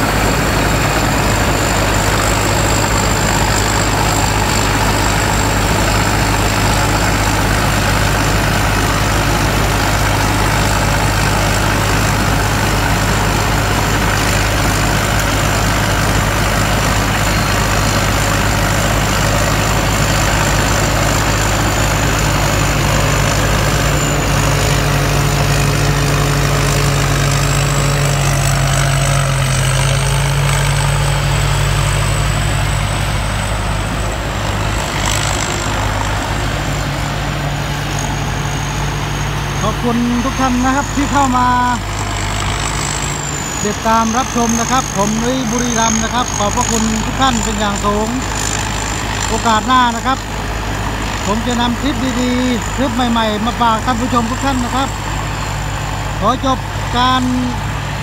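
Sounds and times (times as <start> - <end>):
combine harvester machinery drone: 0.0 - 58.0
deep hum: 0.0 - 58.0
high machinery whine: 0.0 - 58.0.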